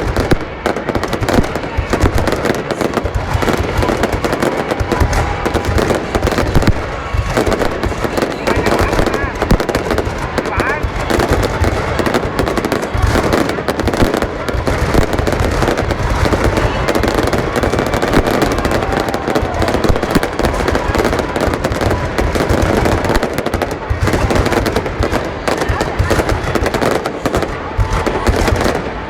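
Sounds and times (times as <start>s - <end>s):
fireworks bursts and crackles: 0.0s - 29.0s.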